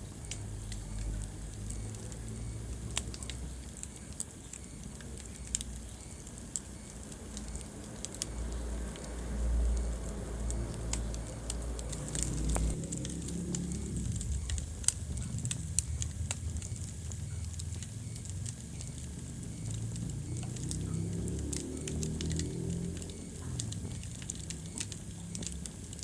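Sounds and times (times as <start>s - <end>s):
low rumble of flame: 0.0s - 26.0s
wood fire crackling and popping: 0.0s - 26.0s.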